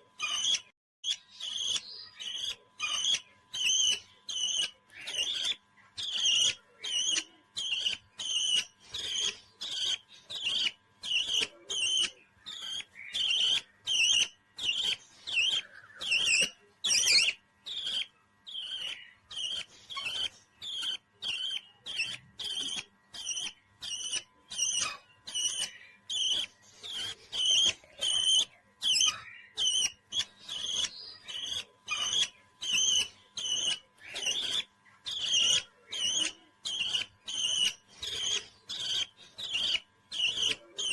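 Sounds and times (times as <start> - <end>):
parrot chirping: 0.1 - 40.9.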